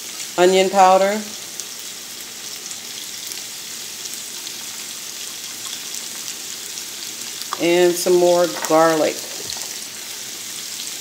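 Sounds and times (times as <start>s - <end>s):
vegetables frying in oil: 0.0s - 11.0s.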